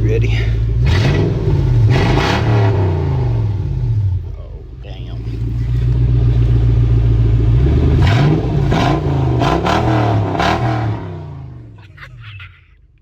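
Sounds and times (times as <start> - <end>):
loud car engine revving: 0.0 - 12.0.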